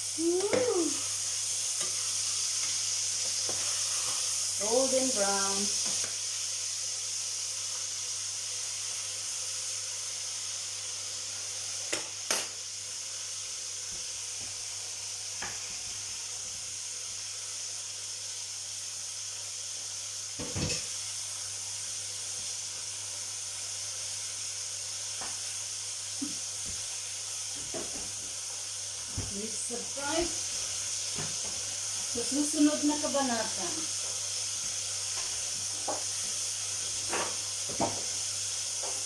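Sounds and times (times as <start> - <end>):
food sizzling in hot fat: 0.0 - 39.0.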